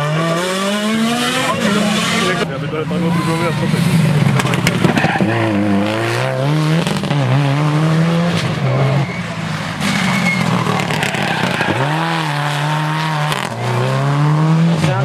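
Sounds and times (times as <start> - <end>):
rally car engines at full throttle: 0.0 - 15.0.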